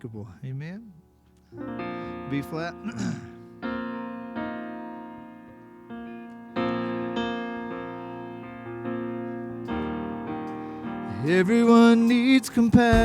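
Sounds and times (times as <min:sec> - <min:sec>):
keyboard playing sustained chords: 0:00.0 - 0:13.0.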